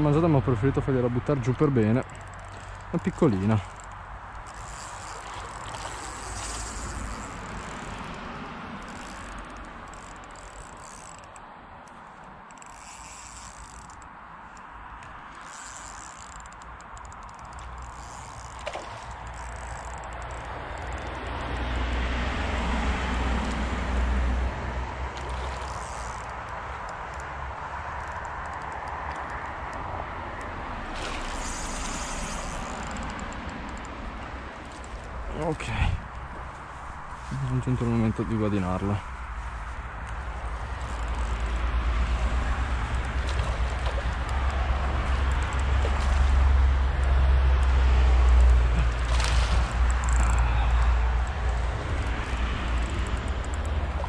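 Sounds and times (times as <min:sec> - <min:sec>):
fishing reel rattling: 0:01.8 - 0:14.1, 0:15.3 - 0:24.1, 0:25.2 - 0:35.2, 0:40.4 - 0:54.0.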